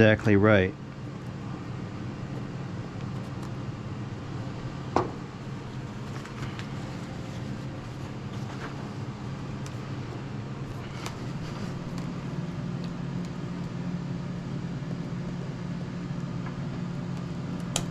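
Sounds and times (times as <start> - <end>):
low background hum: 0.0 - 17.9.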